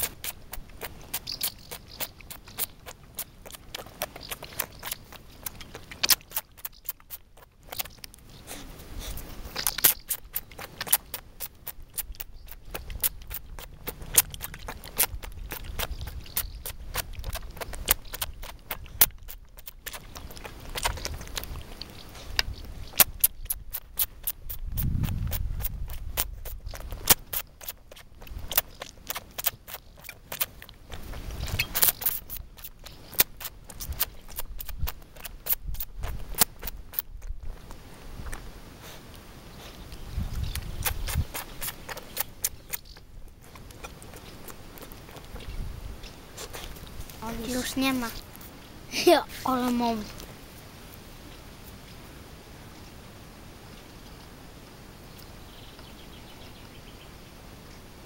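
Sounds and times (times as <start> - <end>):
fawn suckling from bottle: 0.0 - 58.0.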